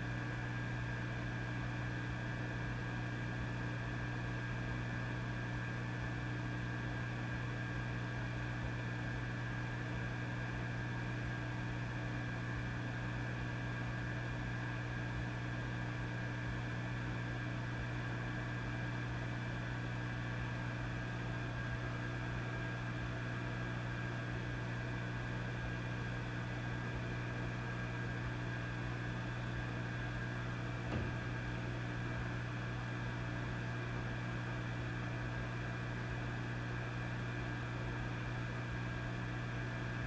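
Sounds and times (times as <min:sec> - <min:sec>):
amplifier mains hum: 0:00.0 - 0:40.0.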